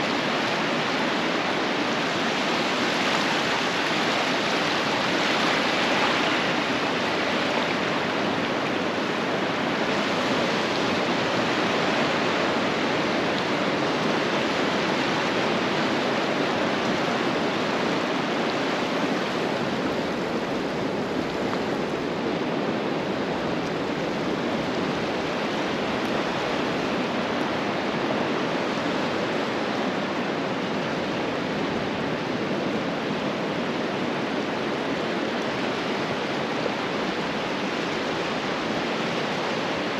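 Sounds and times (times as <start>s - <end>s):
ocean surf washing onto beach: 0.0s - 39.9s.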